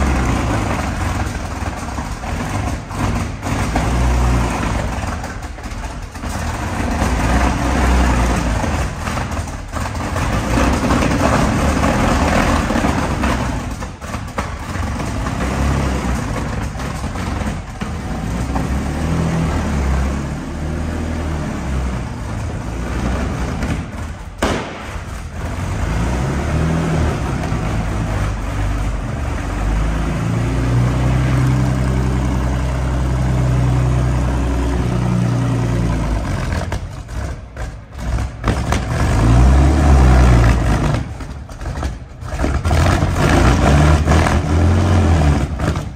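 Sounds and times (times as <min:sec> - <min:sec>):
engine revving and idling: 0:00.0 - 0:45.9.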